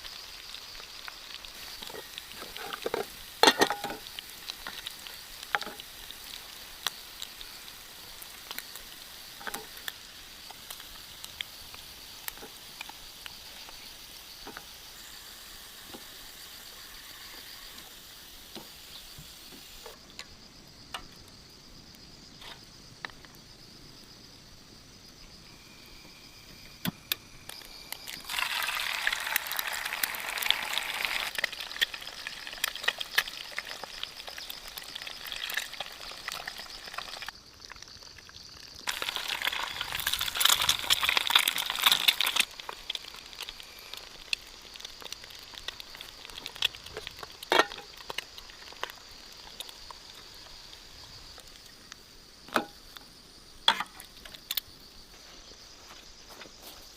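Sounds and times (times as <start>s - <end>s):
crackling sizzling noise: 0.0s - 56.9s
insects droning: 0.0s - 56.9s.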